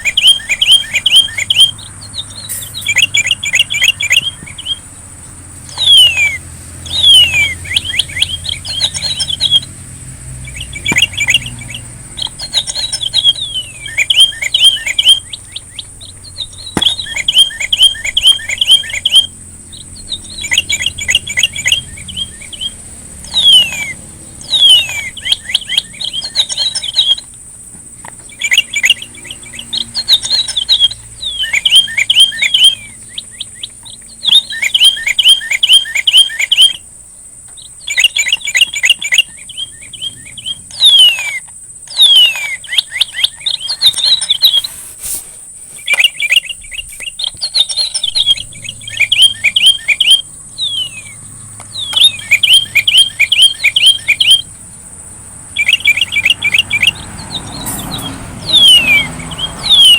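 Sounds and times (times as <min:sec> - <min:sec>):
songbird chirping and whistling: 0:00.0 - 0:59.9
thin steady high tone: 0:00.0 - 0:59.9.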